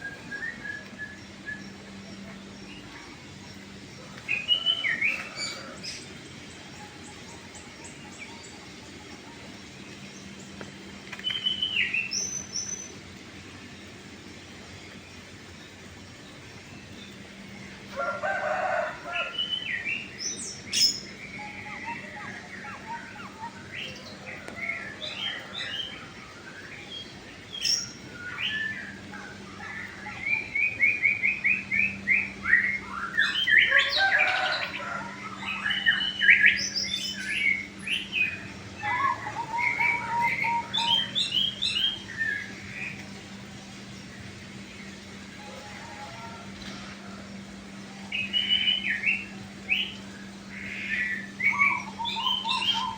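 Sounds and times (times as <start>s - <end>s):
small birds chirping and trilling: 0.0s - 52.9s
steady low hum: 0.0s - 52.9s.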